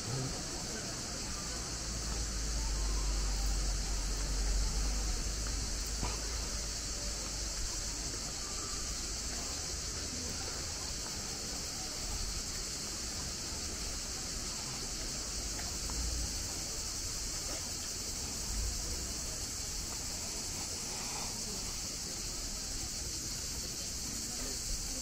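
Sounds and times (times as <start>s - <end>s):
cicadas singing: 0.0s - 25.0s.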